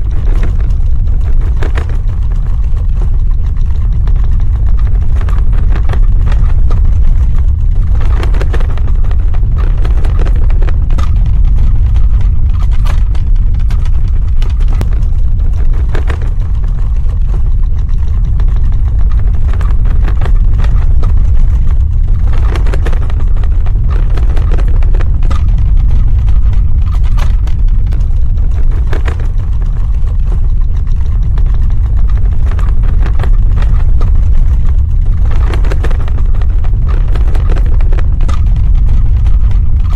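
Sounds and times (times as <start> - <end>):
deep earthquake rumble: 0.0 - 39.9
scattered crackles: 0.0 - 39.9.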